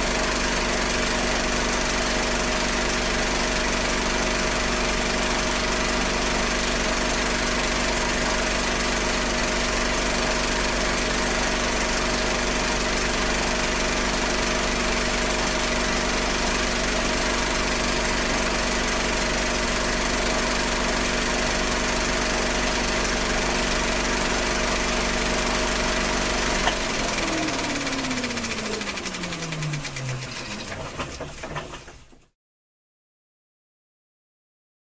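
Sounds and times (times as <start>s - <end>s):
film projector whirring: 0.0s - 32.2s.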